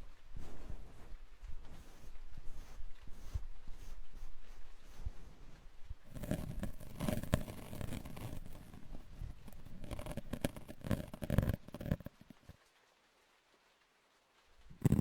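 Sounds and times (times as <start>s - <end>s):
rustling and crackling handling: 0.0s - 12.8s, 14.6s - 15.0s.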